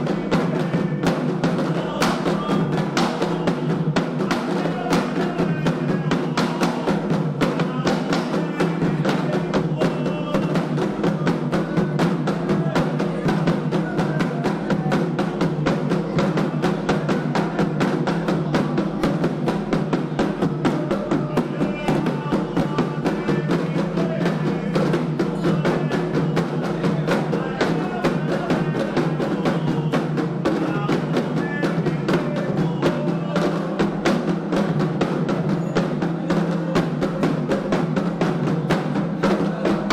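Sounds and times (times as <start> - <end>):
fast hand drumming: 0.0 - 39.9.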